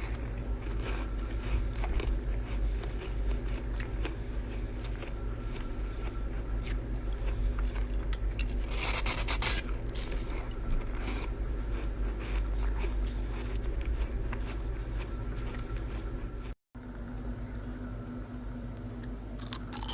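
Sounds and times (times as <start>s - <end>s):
frost crunching: 0.0s - 16.3s
freezer low hum: 0.0s - 19.9s.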